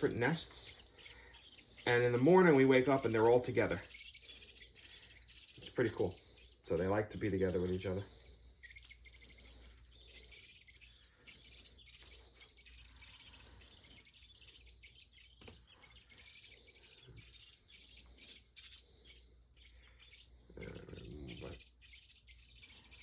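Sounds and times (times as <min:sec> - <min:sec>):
nestling birds chirping: 0:00.0 - 0:23.0.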